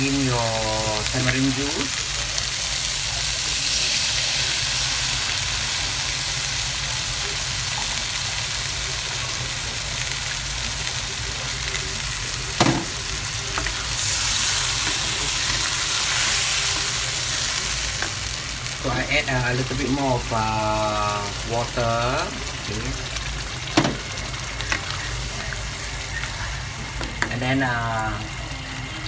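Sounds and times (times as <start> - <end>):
prawns sizzling in wok: 0.0 - 29.0.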